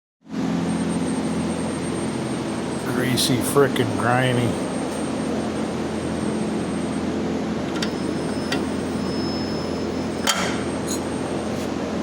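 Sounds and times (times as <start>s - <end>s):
machine hum: 0.4s - 12.0s.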